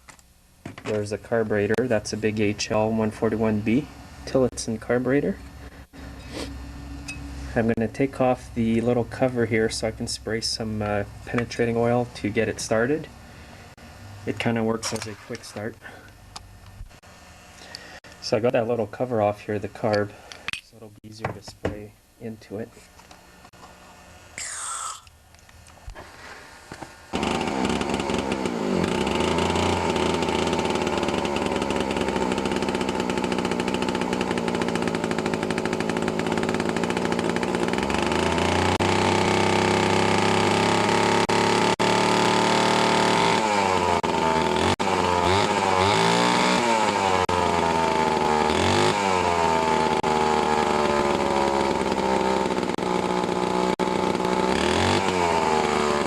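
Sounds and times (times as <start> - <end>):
chainsaw engine revving: 1.6 - 18.3, 26.1 - 56.0.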